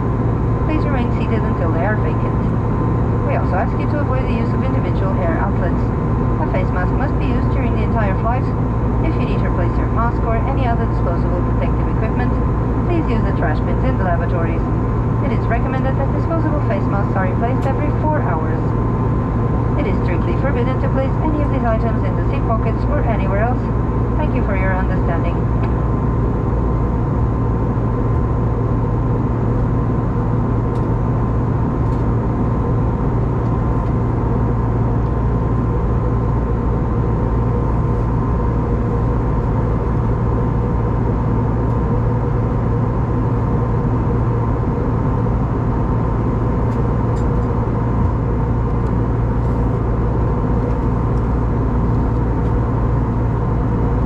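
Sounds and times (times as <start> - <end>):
airflow rush in aircraft cabin: 0.0 - 54.0
faint steady whine: 0.0 - 54.0
low engine hum: 0.0 - 54.0.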